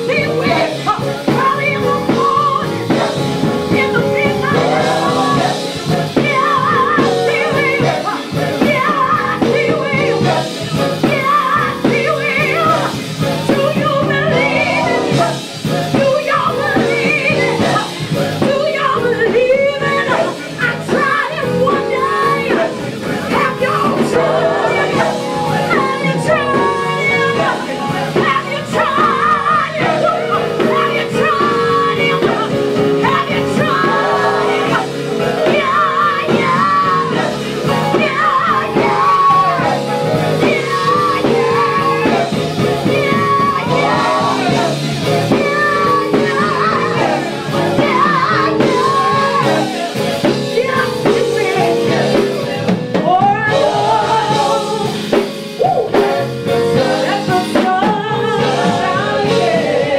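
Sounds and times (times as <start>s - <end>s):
band chords: 0.0s - 59.9s
woman singing with vibrato: 0.0s - 59.9s.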